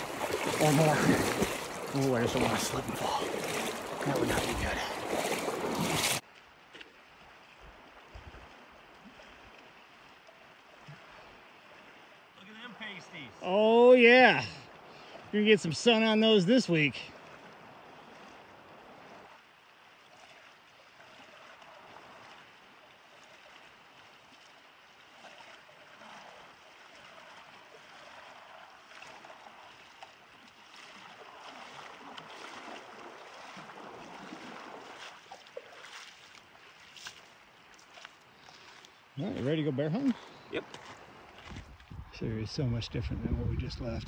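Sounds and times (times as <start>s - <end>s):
splashing of person wading: 0.0s - 12.3s, 17.1s - 41.8s
river flowing: 0.0s - 41.6s.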